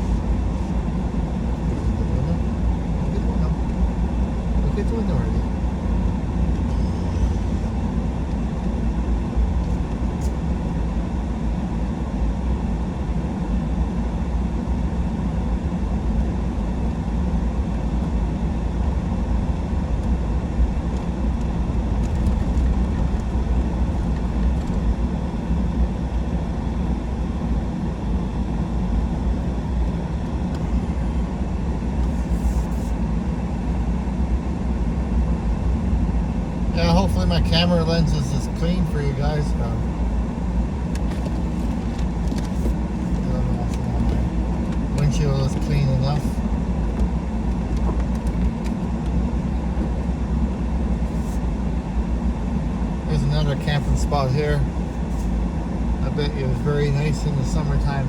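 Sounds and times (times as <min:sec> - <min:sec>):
truck road and engine rumble: 0:00.0 - 0:58.0.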